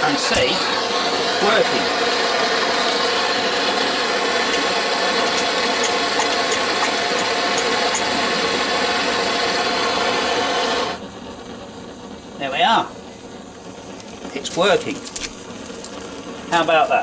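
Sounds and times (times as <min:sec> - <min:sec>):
blowlamp burner roaring: 0:00.0 - 0:17.0.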